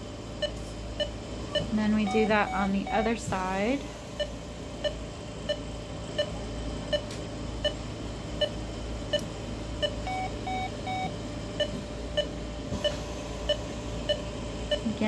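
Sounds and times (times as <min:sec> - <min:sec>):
longer monitor beeps: 0:00.4 - 0:03.2, 0:04.2 - 0:07.8, 0:08.4 - 0:15.0
monitor beeping: 0:00.4 - 0:07.8, 0:08.4 - 0:15.0.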